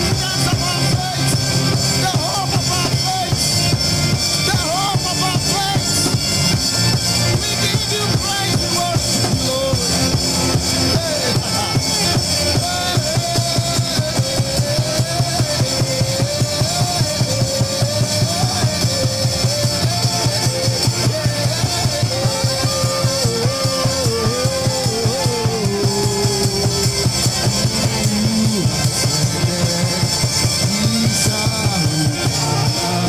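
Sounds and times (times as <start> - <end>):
drum kit beat: 0.0 - 33.0
wavering melodic lead line: 0.0 - 33.0.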